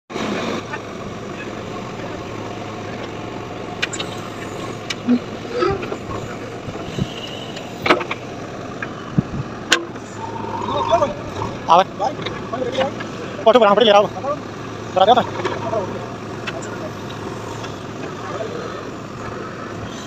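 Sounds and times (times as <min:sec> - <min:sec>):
diesel engine under load: 0:00.1 - 0:20.0.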